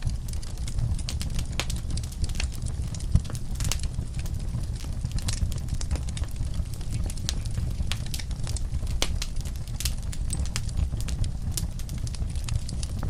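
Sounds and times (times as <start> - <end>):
deep pop from fire: 0.0 - 13.0
low rumble of flames: 0.0 - 13.0
wood fire crackling: 0.0 - 13.0.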